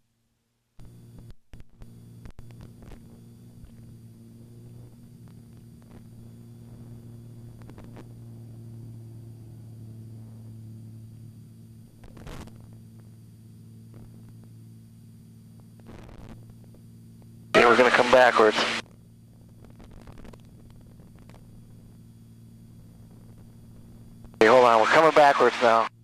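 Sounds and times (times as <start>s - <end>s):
plane engine drone in cockpit: 0.0s - 26.0s.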